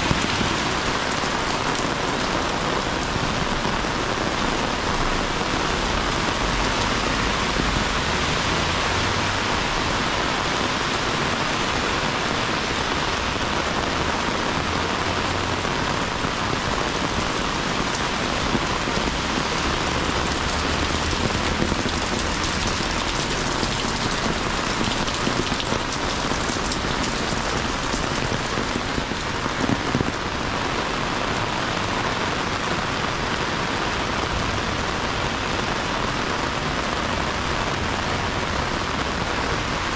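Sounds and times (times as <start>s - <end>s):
heavy rain on street: 0.0s - 39.9s.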